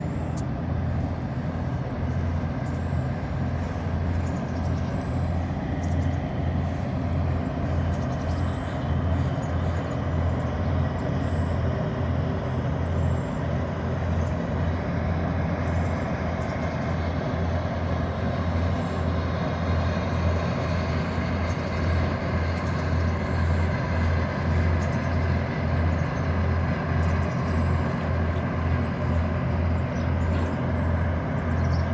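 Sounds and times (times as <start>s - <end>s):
diesel engine throbbing: 0.0s - 31.9s.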